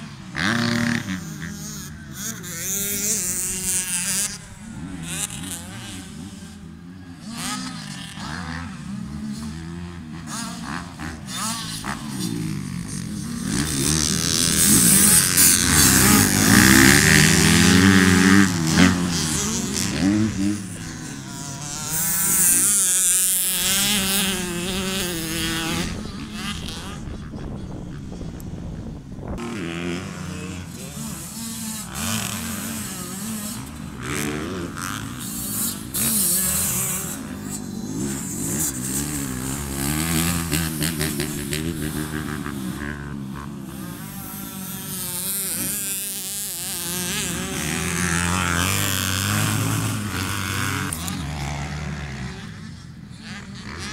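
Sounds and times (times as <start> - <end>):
motocross bike engines revving: 0.0 - 53.9.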